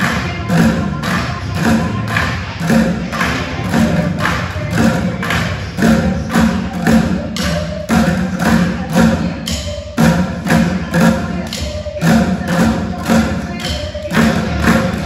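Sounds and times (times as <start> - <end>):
drumsticks on plastic buckets: 0.0 - 15.0.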